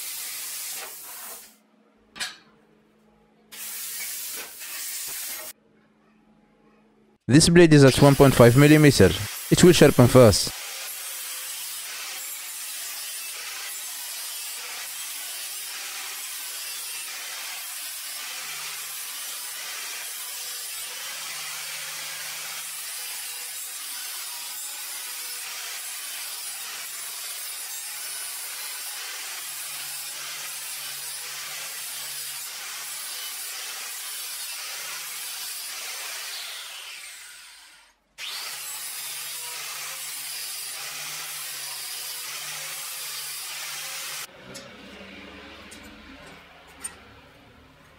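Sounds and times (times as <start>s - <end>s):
angle grinder grinding steel: 7.8s - 47.9s.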